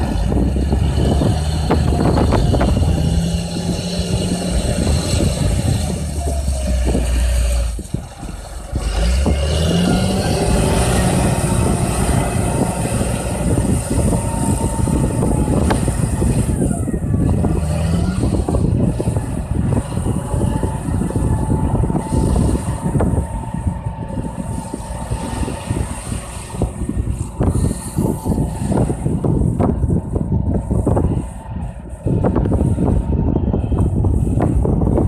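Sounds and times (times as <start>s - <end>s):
tractor diesel engine rumbling: 0.0s - 35.0s.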